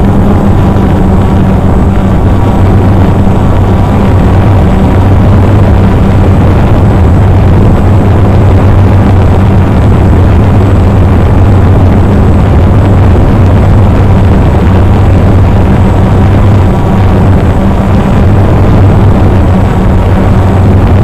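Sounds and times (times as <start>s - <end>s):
drone motors and propellers: 0.0s - 21.0s.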